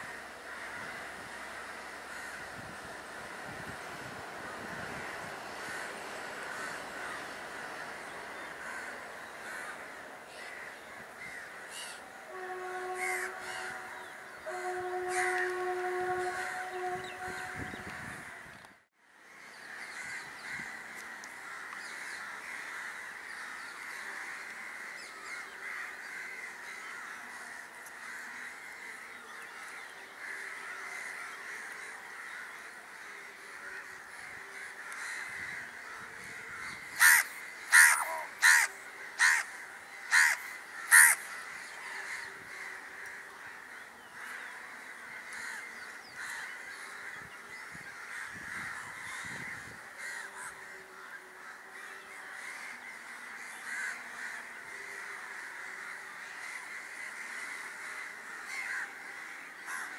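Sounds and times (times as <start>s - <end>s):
crows cawing: 0.0s - 3.8s, 4.4s - 18.5s, 19.3s - 59.9s.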